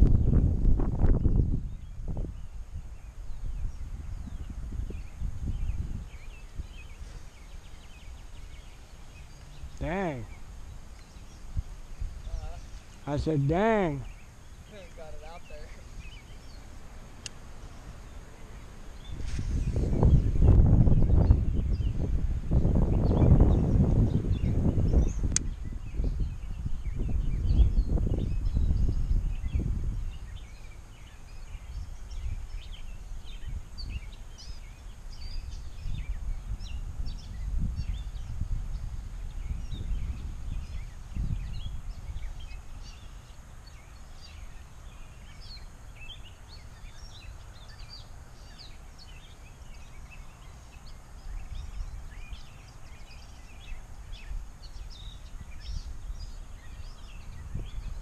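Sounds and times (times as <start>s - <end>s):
birds chirping and singing: 0.0s - 58.0s
wind buffeting the microphone: 0.0s - 58.0s.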